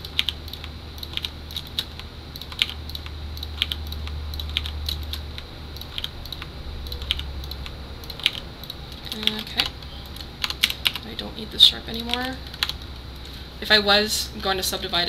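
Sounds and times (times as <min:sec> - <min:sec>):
keyboard and mouse clicks: 0:00.0 - 0:11.1, 0:12.0 - 0:13.3
low steady hum: 0:00.0 - 0:15.0.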